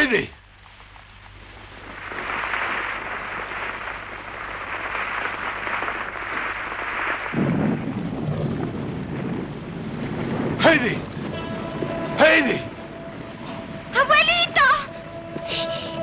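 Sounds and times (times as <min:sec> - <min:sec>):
deep rumble: 0:00.4 - 0:16.0
snow rushing: 0:00.7 - 0:14.7.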